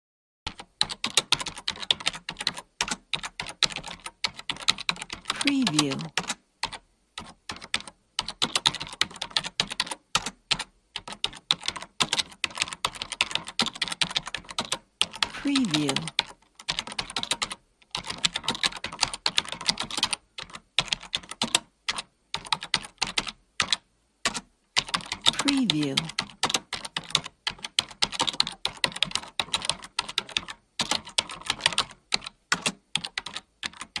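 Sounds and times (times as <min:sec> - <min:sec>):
fast typing on keyboard: 0:00.5 - 0:34.0.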